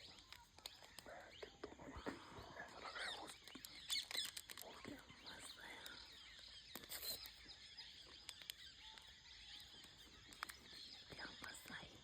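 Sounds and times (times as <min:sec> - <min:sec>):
soft clicks: 0:00.0 - 0:01.6, 0:03.0 - 0:07.5, 0:08.1 - 0:11.9
faint high chirps: 0:00.0 - 0:12.0
faint jungle ambience: 0:00.0 - 0:12.0.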